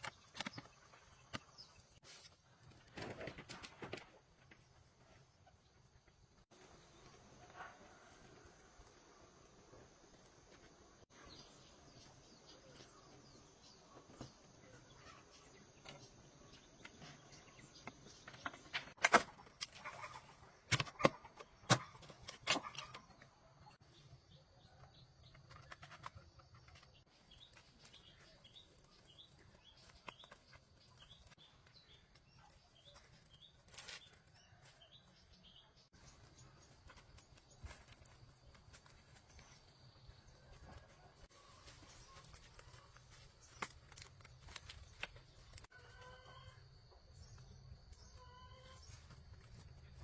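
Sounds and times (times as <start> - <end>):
birds chirping faintly: 0.0 - 50.0.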